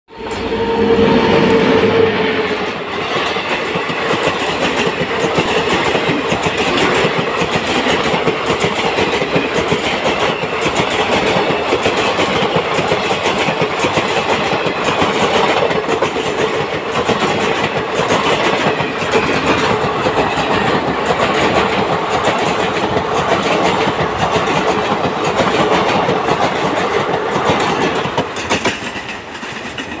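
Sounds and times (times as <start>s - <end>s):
steady locomotive tone: 0.1s - 30.0s
train wheels rumbling on rails: 0.1s - 30.0s.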